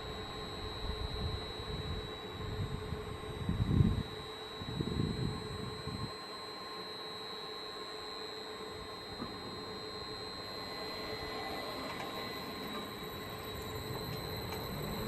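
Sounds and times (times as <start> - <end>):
electric train whine: 0.0 - 15.0.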